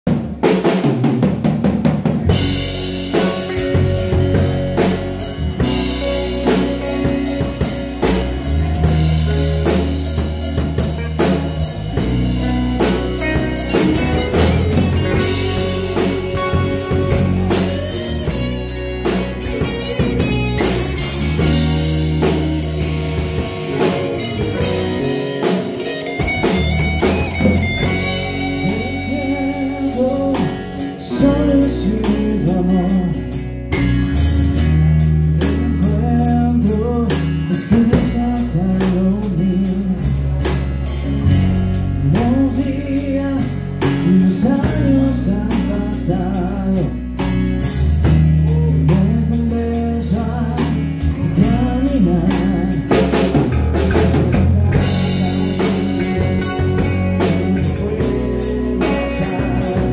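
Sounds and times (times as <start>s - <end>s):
rock band playing: 0.0s - 59.9s
drum kit beat: 0.1s - 59.9s.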